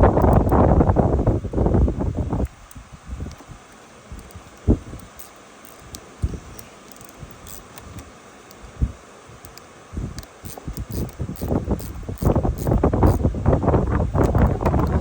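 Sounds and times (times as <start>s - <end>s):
wind buffeting microphone: 0.0s - 5.2s, 5.8s - 15.0s.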